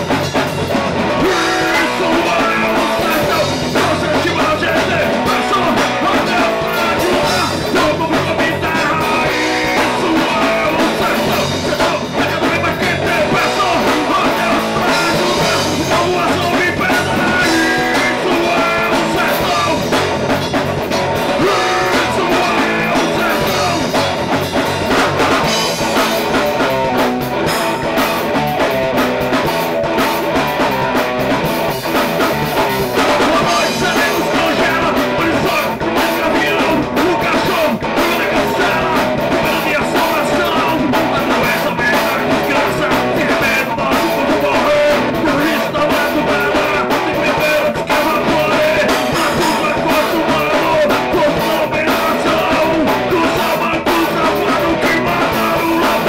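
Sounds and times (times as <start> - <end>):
rock music with guitar and drums: 0.0 - 56.0.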